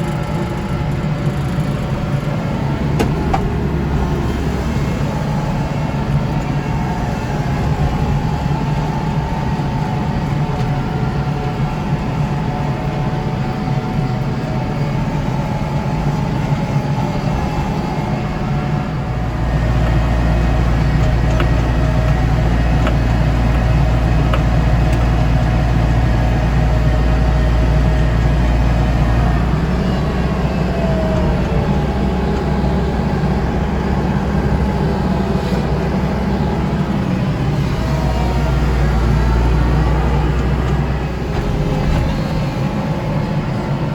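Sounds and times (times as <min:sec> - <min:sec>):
snow blower working: 0:00.0 - 0:43.9
tractor diesel engine running: 0:00.0 - 0:43.9.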